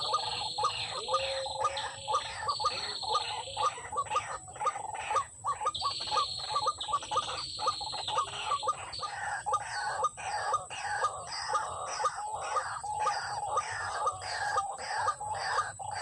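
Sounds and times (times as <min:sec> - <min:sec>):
buzzing insect chorus: 0:00.0 - 0:16.0.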